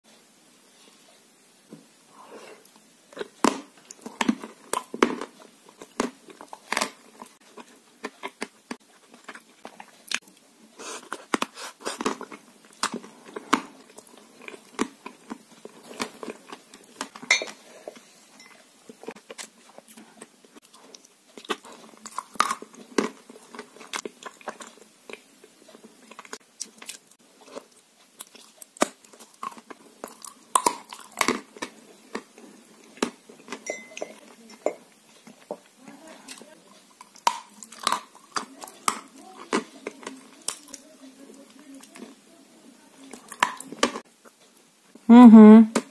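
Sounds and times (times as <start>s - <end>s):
person chewing with wet smacks: 2.6s - 18.0s, 18.9s - 42.2s.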